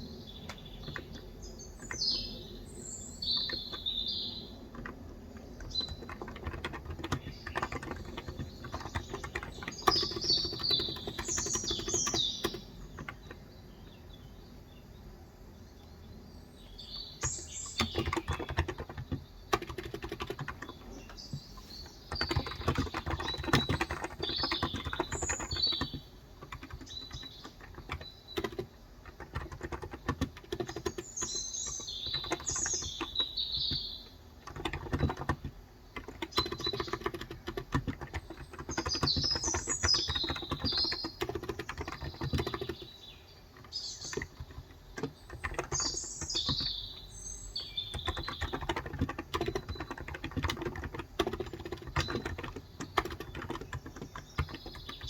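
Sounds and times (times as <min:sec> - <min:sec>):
small birds chirping: 0:00.0 - 0:55.0
typing on a keyboard: 0:00.4 - 0:02.6, 0:03.2 - 0:13.6, 0:17.0 - 0:55.0.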